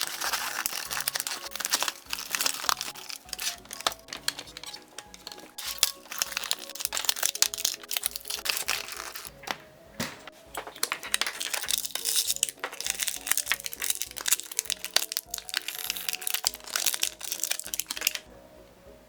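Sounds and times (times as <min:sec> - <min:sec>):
plastic packaging crinkling: 0:00.0 - 0:18.3
background music: 0:00.0 - 0:19.0.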